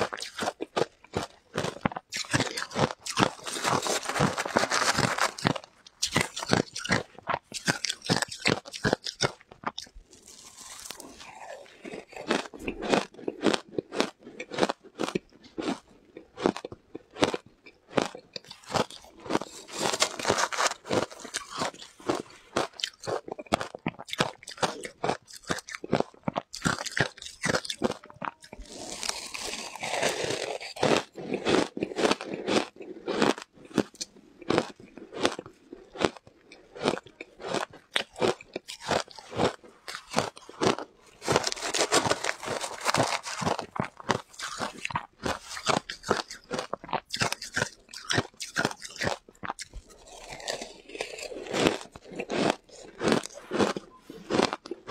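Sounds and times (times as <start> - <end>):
crunching of shaved ice: 0.0 - 54.9.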